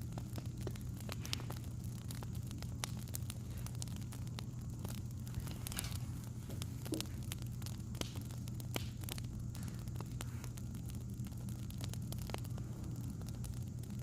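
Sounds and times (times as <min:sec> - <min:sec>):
steady low hum: 0:00.0 - 0:14.0
wood fire crackling: 0:00.0 - 0:14.0.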